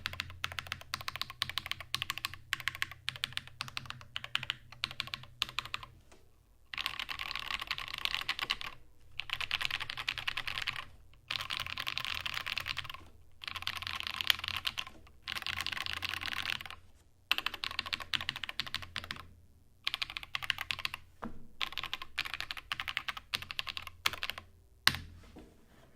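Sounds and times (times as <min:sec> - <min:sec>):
fast typing on mechanical keyboard: 0:00.0 - 0:05.9, 0:06.7 - 0:21.0, 0:21.6 - 0:24.5.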